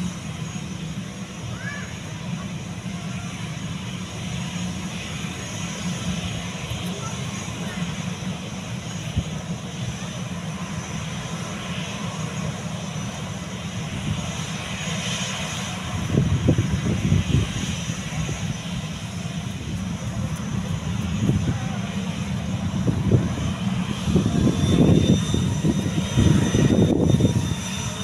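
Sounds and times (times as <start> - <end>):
jet engines whining: 0.0 - 28.0.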